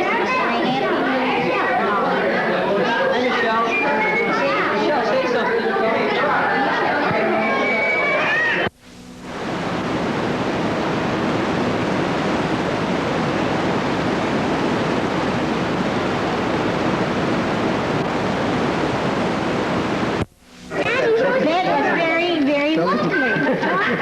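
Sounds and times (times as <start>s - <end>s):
steady static hiss: 0.0s - 24.0s.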